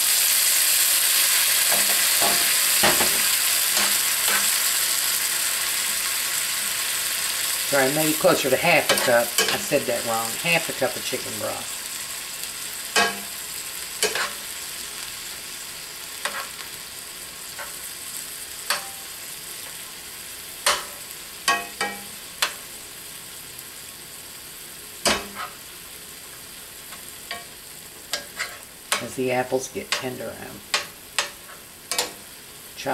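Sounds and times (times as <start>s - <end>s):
food sizzling in a skillet: 0.0s - 32.9s.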